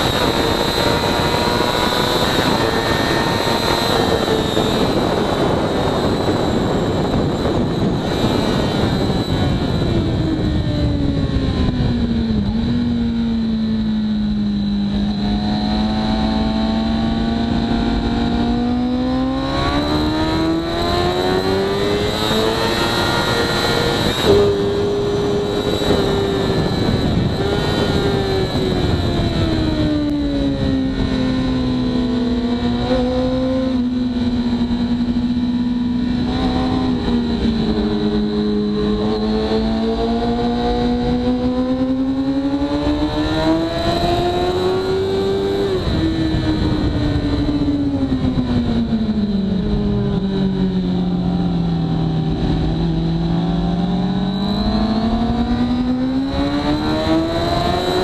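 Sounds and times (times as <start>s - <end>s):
motorcycle engine: 0.0s - 58.0s
wind rush: 0.0s - 58.0s.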